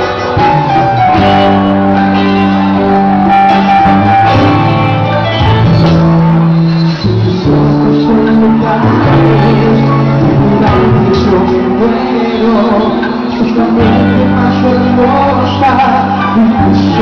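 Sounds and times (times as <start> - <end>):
drums: 0.0 - 17.0
electric guitar: 0.0 - 17.0
keyboards: 0.0 - 17.0.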